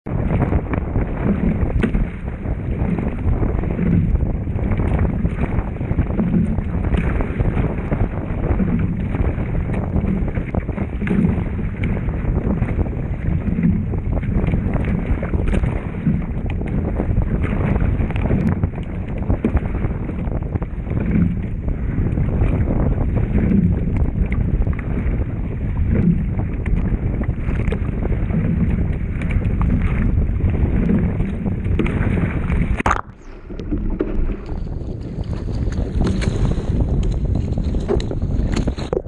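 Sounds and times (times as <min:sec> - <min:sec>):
waves slapping against hull: 0:00.0 - 0:39.0
wind buffeting microphone: 0:00.0 - 0:39.0.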